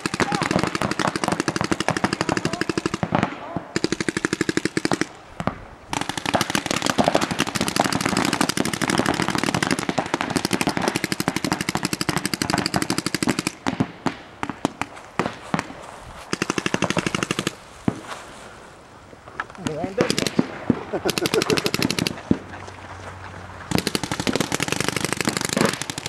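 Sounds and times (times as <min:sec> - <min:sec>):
paintball markers firing: 0:00.0 - 0:18.0, 0:19.6 - 0:22.4, 0:23.7 - 0:26.0.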